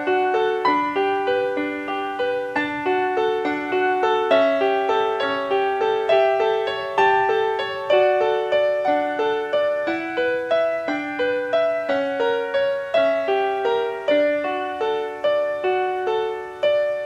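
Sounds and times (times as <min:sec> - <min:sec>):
piano single notes: 0:00.0 - 0:17.0.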